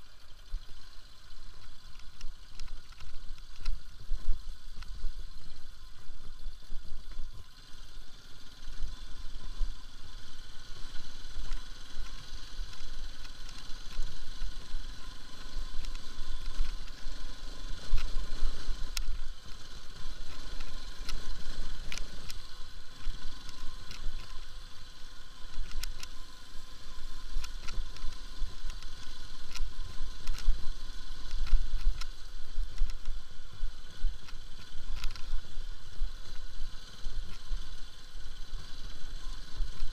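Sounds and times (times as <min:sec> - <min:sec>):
bike clicks and knocks over bumps: 0:00.0 - 0:39.9
motorcycle engine running: 0:00.0 - 0:39.9.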